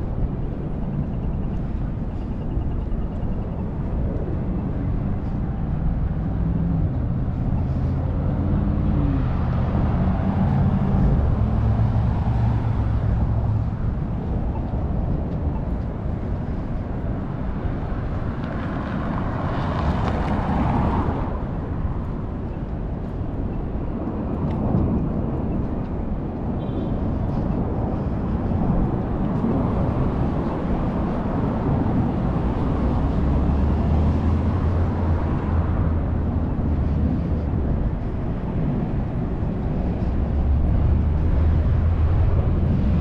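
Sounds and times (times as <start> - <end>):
low engine drone: 0.0 - 18.4, 19.0 - 43.0
traffic rushing past: 0.0 - 43.0.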